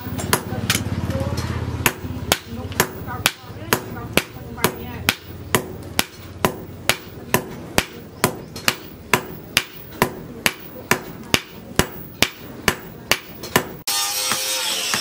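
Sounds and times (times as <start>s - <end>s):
hammer striking metal anvil: 1.8s - 15.0s.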